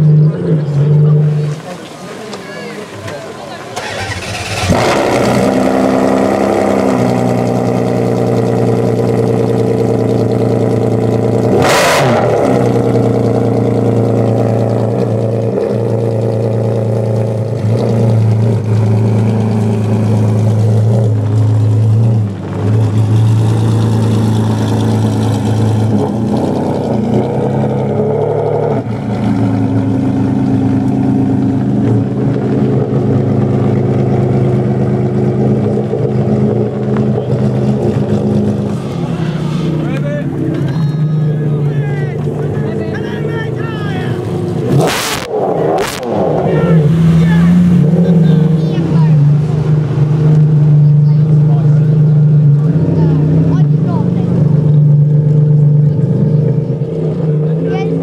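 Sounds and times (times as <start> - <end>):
sports car engine idling: 0.0 - 11.6, 12.4 - 44.7, 46.3 - 58.0
engine revving: 0.0 - 58.0.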